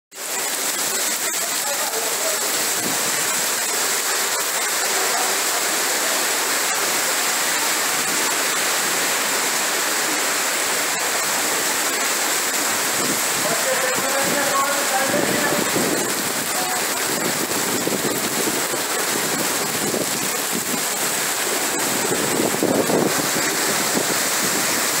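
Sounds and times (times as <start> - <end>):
heavy rain pouring: 0.1 - 25.0.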